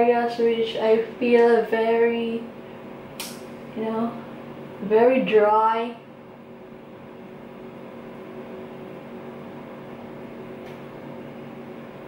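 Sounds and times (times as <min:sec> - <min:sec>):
mechanical hum with tones: 0:00.0 - 0:12.0.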